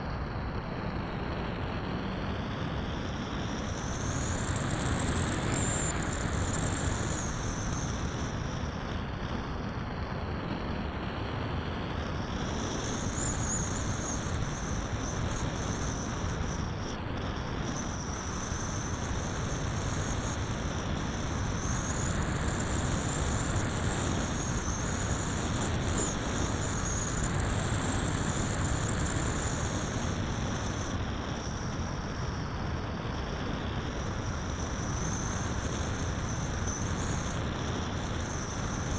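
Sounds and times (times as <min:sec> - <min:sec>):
high motor whine: 0:00.0 - 0:38.9.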